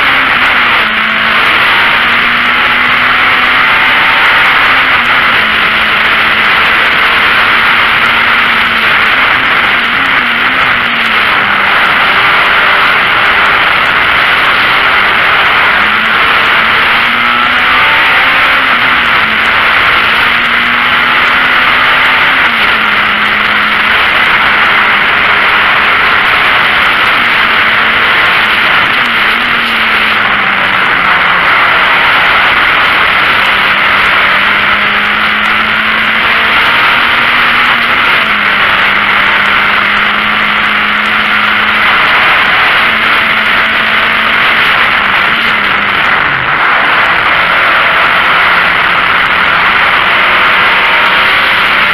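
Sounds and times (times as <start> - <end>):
race car engine roaring: 0.0 - 51.9
wind and road noise: 0.0 - 51.9.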